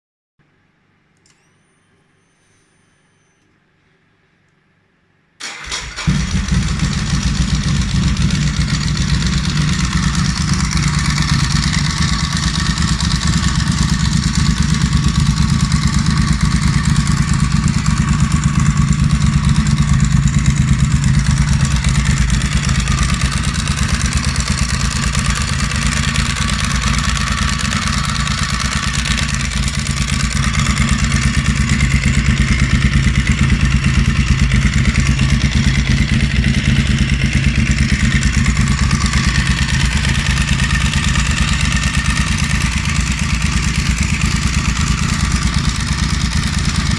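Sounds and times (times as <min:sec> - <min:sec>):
motorcycle engine starting and running: 0:05.4 - 0:46.9.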